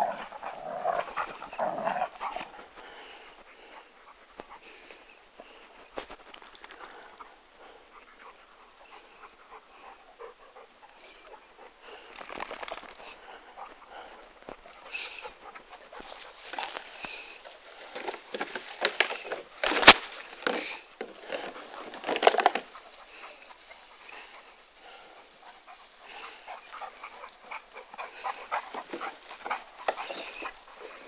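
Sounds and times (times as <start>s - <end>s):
rustling and scuffling: 0.0s - 8.4s, 12.0s - 31.0s
dog panting: 0.0s - 31.0s.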